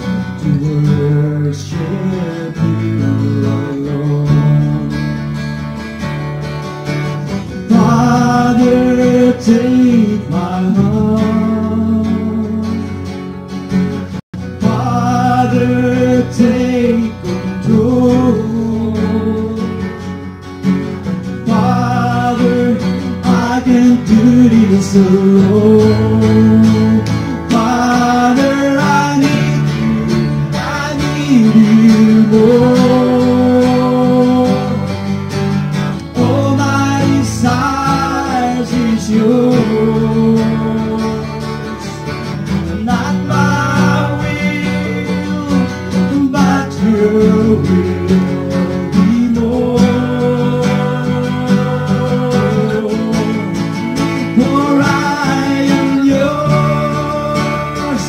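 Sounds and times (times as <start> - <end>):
person singing: 0.0 - 5.3, 7.6 - 13.1, 14.6 - 20.3, 21.4 - 35.3, 36.0 - 58.0
acoustic guitar strumming: 0.0 - 58.0
electric bass guitar: 0.0 - 58.0.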